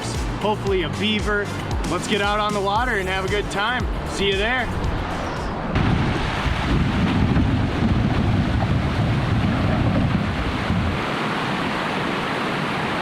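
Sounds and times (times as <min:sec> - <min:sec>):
river water rushing: 0:00.0 - 0:13.0
wind buffeting microphone: 0:00.3 - 0:11.8.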